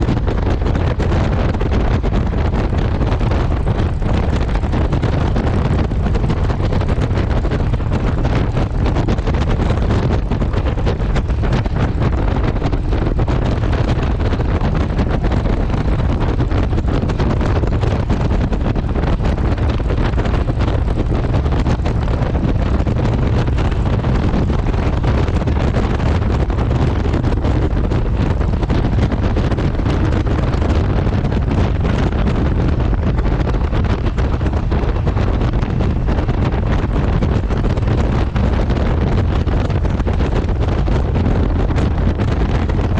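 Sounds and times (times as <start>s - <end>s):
motorcycle running: 0.0s - 42.9s
wind buffeting microphone: 0.0s - 42.9s.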